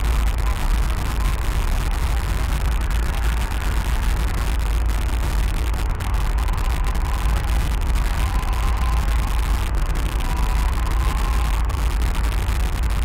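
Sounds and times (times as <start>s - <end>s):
low rumbling drone with hiss: 0.0s - 13.0s.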